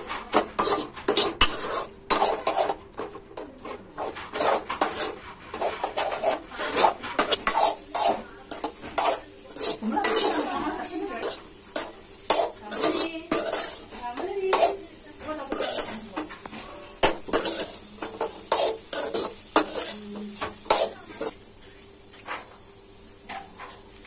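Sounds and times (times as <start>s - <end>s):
metal ladle scraping a pan: 0.0s - 21.4s.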